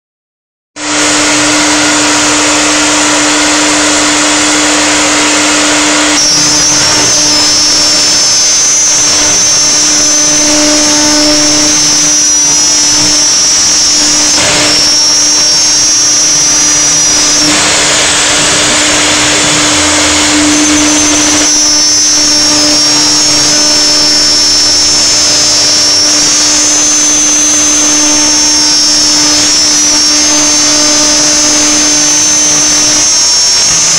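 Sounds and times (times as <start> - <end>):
router spindle hum and whine: 0.8 - 33.9.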